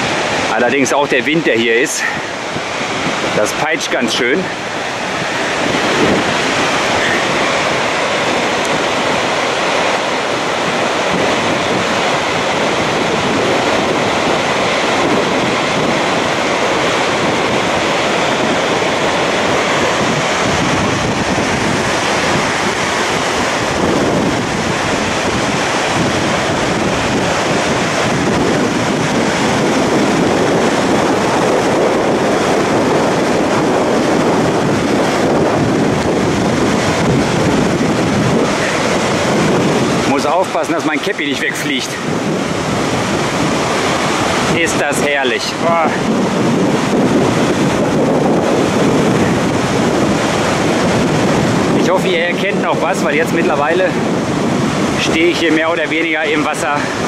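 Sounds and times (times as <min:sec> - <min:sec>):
waterfall thundering: 0:00.0 - 0:57.0
wind buffeting microphone: 0:00.0 - 0:57.0.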